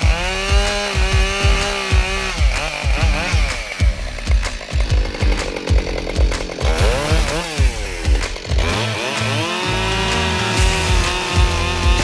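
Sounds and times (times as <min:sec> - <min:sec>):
background music with beat: 0:00.0 - 0:12.0
chainsaw revving: 0:00.0 - 0:12.0.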